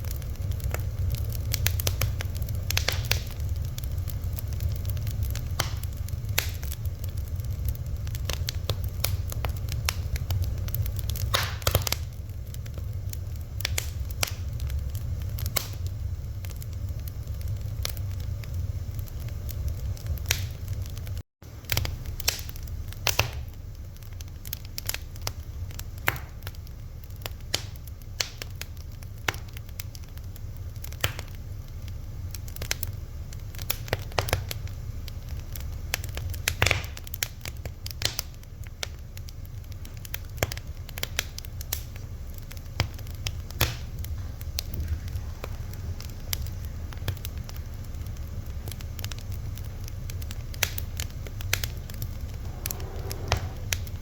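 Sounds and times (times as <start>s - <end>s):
fire crackling and popping: 0.0s - 54.0s
steady low rumble: 0.0s - 54.0s.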